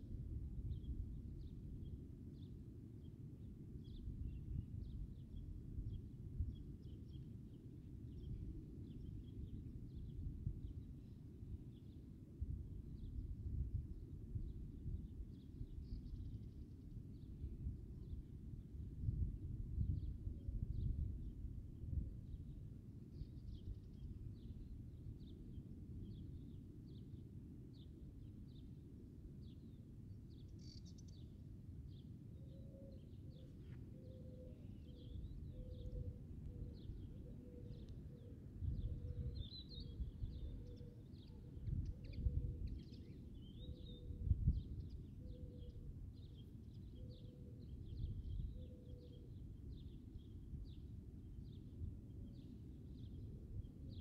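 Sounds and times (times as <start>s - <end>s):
wind rumbling on microphone: 0.0s - 2.0s, 3.8s - 7.2s, 7.9s - 11.7s, 12.4s - 26.2s, 32.9s - 54.0s.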